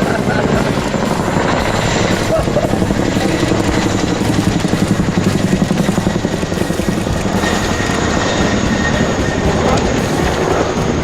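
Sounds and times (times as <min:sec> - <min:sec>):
helicopter rotor blade slap: 0:00.0 - 0:11.0
turbine engine whine: 0:00.0 - 0:11.0.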